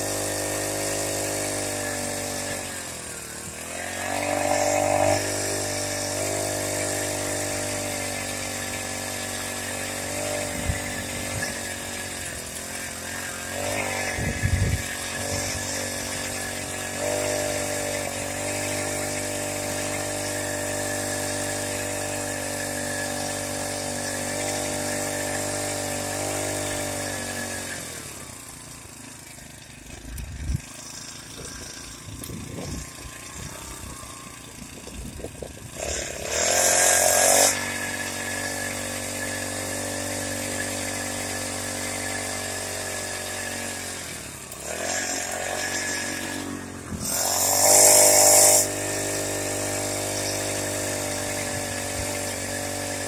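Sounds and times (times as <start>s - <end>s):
small motorbike engine running: 0.0s - 53.0s.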